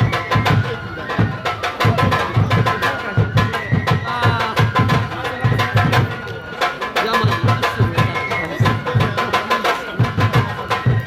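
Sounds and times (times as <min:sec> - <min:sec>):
drums beaten in quick rhythm: 0:00.0 - 0:11.0
high flute melody: 0:00.0 - 0:11.0.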